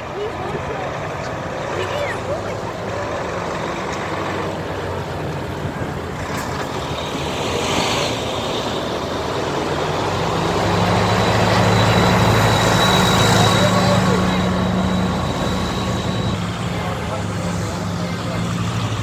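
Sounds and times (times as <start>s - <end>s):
heavy vehicle engines passing: 0.0s - 19.0s.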